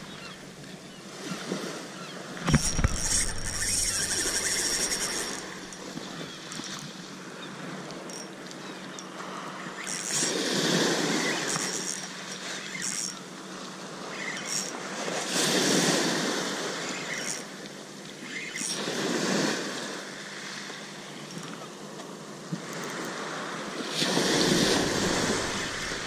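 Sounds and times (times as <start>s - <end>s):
small waves breaking on beach: 0.0s - 8.1s, 9.1s - 26.0s.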